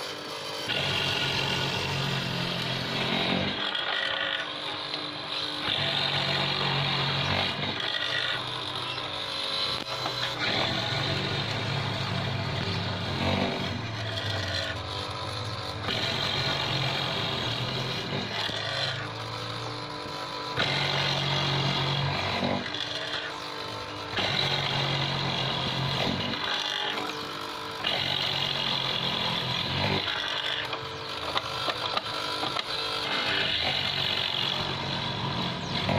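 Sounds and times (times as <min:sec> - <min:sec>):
mortising machine cutting wood: 0:00.0 - 0:35.9.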